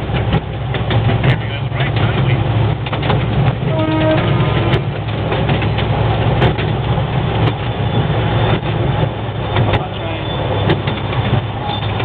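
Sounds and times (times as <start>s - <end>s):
miniature train rumbling: 0.0s - 12.0s
wheels clicking on track: 0.0s - 12.0s.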